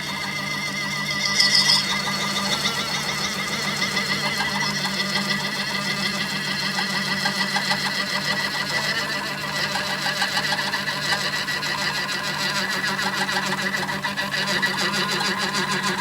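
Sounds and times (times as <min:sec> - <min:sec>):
machine tool humming and rattling: 0:00.0 - 0:16.0.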